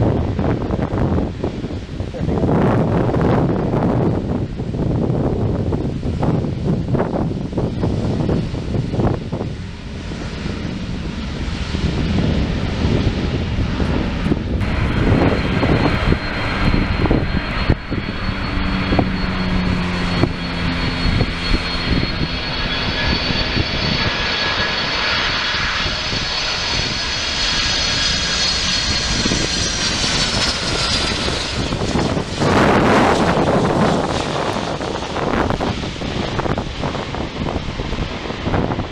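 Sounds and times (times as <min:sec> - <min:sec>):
jet airliner passing: 0:00.0 - 0:38.9.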